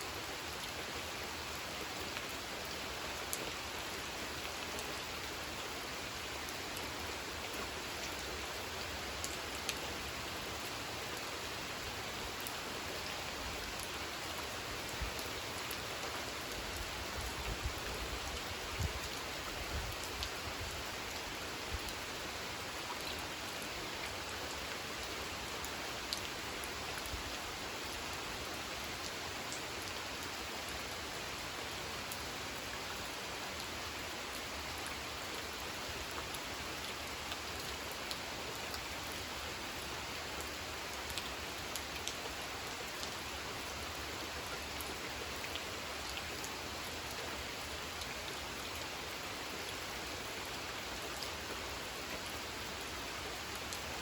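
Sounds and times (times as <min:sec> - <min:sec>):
rain falling on a pond: 0:00.0 - 0:54.0.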